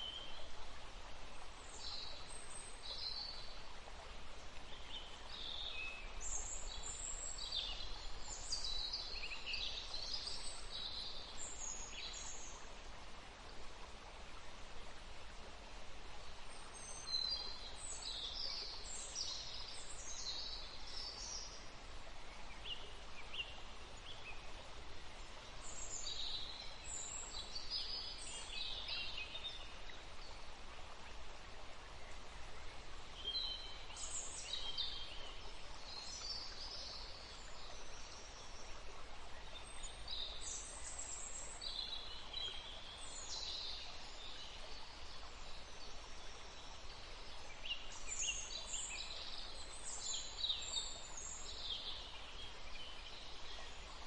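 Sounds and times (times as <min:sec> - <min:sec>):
songbirds chirping: 0:00.0 - 0:54.0
stream running: 0:00.0 - 0:54.0.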